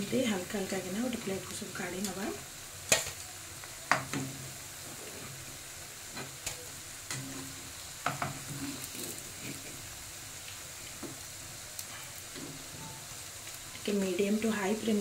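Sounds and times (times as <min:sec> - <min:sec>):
deep-frying sizzle: 0:00.0 - 0:15.0.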